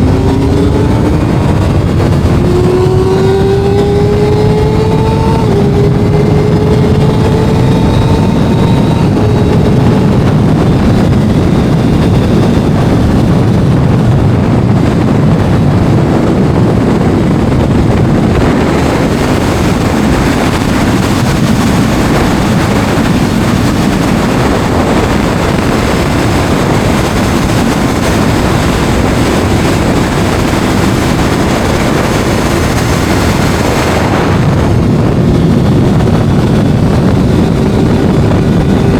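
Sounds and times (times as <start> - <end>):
motorcycle engine at speed: 0.0 - 38.9
wind rush on microphone: 0.0 - 38.9.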